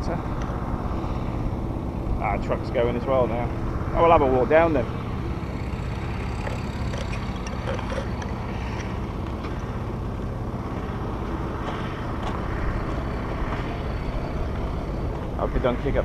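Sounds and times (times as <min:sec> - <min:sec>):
lorry diesel engine running: 0:00.0 - 0:16.0.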